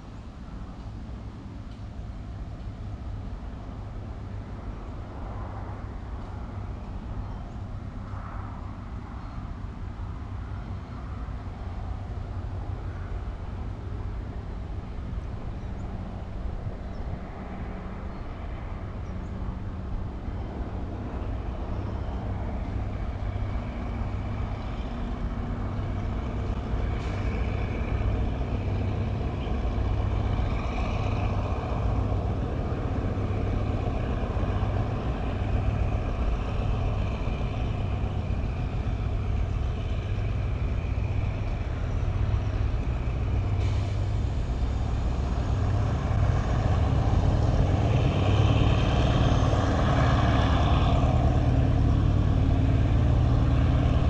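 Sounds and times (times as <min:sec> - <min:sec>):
locomotive engine rumble: 0:00.0 - 0:54.0.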